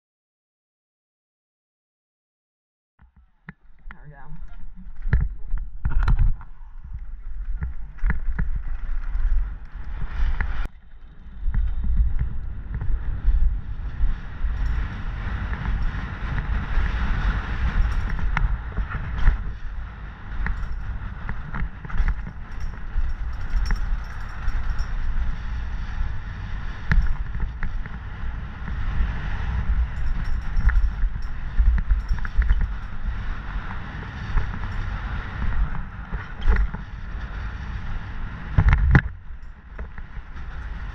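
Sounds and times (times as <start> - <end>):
wind buffeting microphone: 3.2 - 40.9
bike rattling and knocking: 4.8 - 37.5, 38.4 - 40.9.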